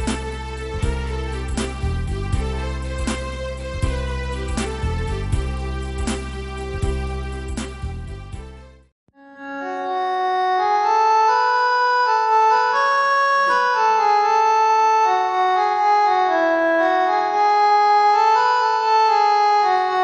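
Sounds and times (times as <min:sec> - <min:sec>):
organ-like keyboard music: 0:00.0 - 0:20.0.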